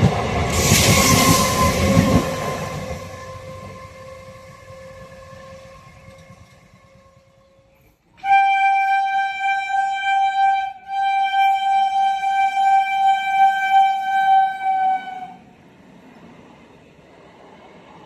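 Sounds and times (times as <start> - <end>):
train rumbling past: 0.0 - 18.0
train horn blasts: 1.0 - 15.5.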